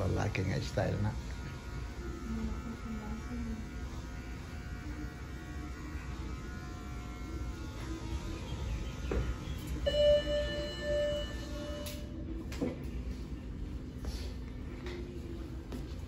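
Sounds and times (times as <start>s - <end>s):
low electric buzz: 0.0s - 14.0s.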